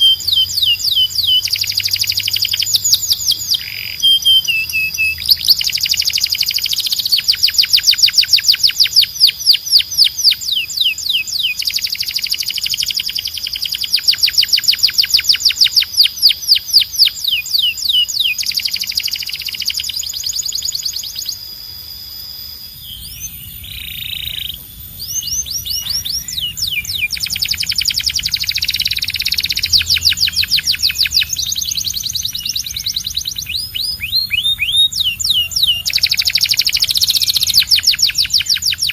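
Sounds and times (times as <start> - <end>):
canary trilling: 0.0 - 21.6, 22.6 - 38.9.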